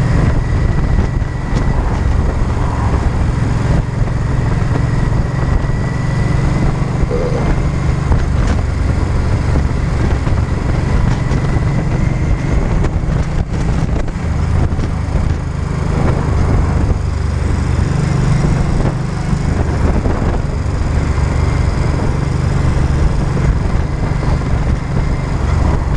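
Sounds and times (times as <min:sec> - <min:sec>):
motorcycle engine running: 0:00.0 - 0:25.9
wind and road noise: 0:00.0 - 0:25.9.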